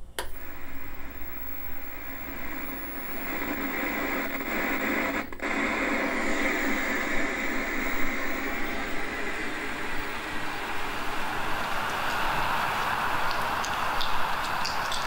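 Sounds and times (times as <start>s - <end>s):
television static hiss: 0.0s - 15.0s.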